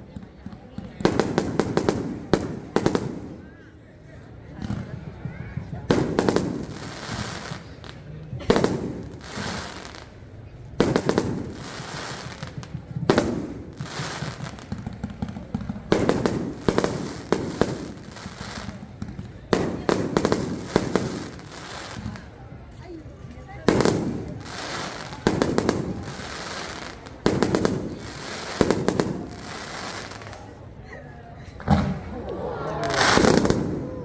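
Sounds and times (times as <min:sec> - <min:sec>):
fireworks bursting with crackling: 0:00.0 - 0:03.6, 0:04.7 - 0:30.6, 0:32.8 - 0:34.0.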